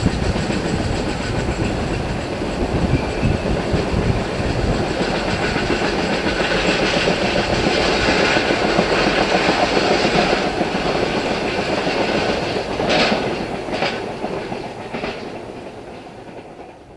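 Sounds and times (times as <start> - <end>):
freight train wheels clattering: 0.0 - 16.9.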